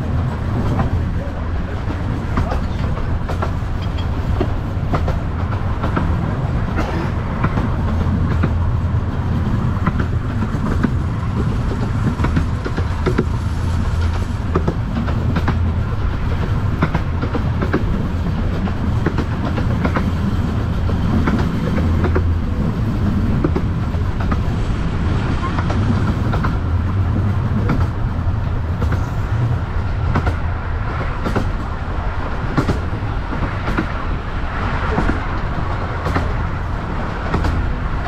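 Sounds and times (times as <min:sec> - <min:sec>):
train rumbling on track: 0:00.0 - 0:38.0
wheels clicking over rail joints: 0:00.0 - 0:38.0.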